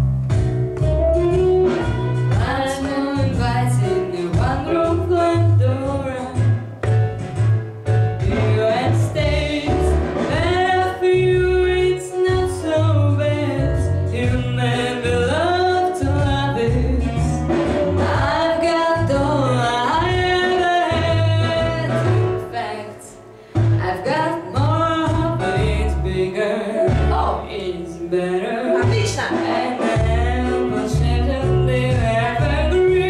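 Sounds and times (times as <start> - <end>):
backing track with bass line: 0.0 - 22.8, 23.5 - 33.0
woman singing: 2.3 - 6.6, 8.2 - 23.2, 23.8 - 33.0.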